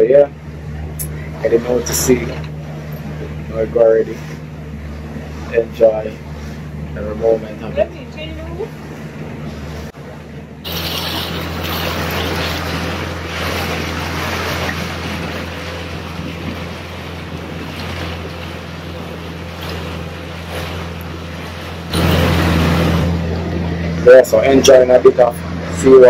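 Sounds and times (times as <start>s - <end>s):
outboard motor running: 0.0s - 26.0s
water rushing past hull: 0.0s - 26.0s.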